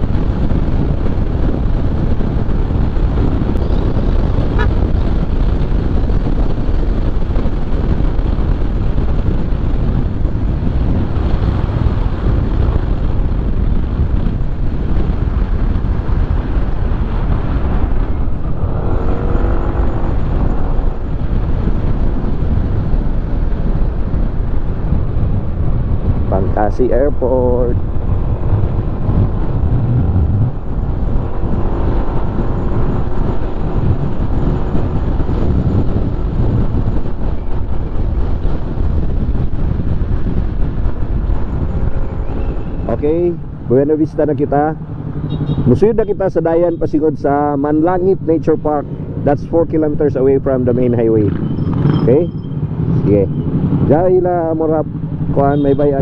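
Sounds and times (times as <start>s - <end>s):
motorcycle engine: 0.0s - 43.8s, 44.8s - 46.0s, 50.5s - 56.0s
wind rush on microphone: 0.0s - 56.0s.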